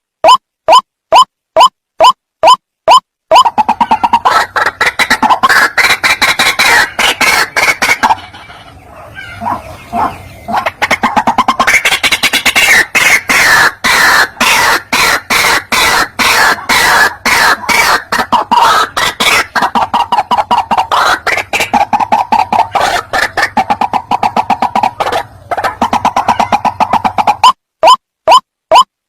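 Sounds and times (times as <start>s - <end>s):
waterhen calling harshly: 2.9s - 28.4s.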